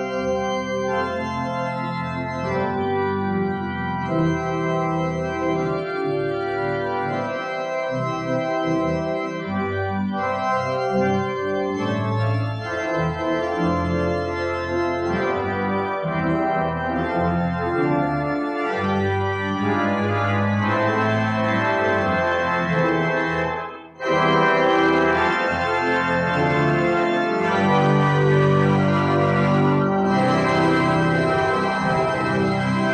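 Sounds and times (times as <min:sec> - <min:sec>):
pipe organ playing chords: 0:00.0 - 0:32.9.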